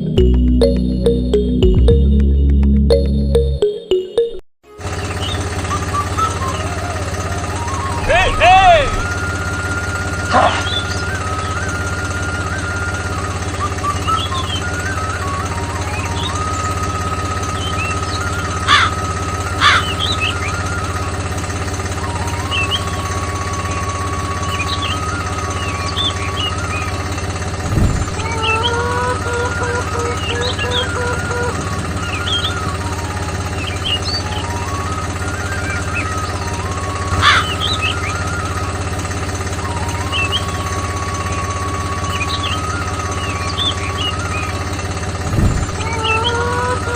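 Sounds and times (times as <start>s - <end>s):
thin whine changing pitch: 0.0s - 46.9s
engine idling: 4.7s - 46.9s.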